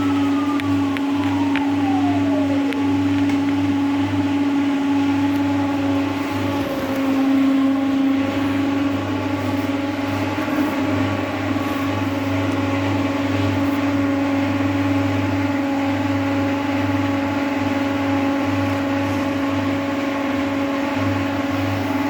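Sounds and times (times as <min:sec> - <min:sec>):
constant whine over low hum: 0:00.0 - 0:22.0
washing machine spinning: 0:00.0 - 0:22.0.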